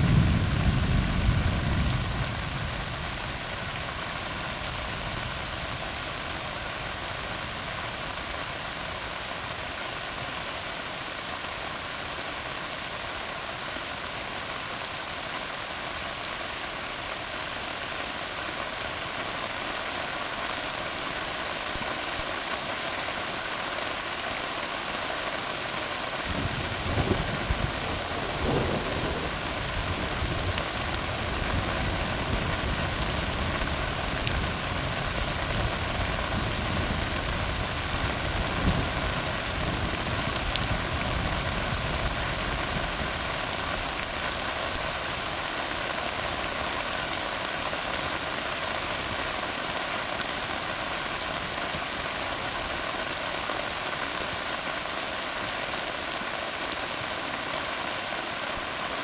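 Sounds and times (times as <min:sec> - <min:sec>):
rain hissing on a road: 0:00.0 - 0:59.0.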